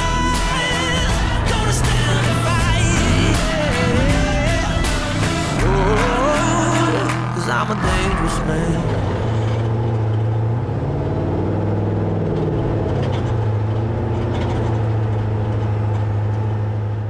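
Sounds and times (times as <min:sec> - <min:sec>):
truck engine running from inside cab: 0:00.0 - 0:17.0.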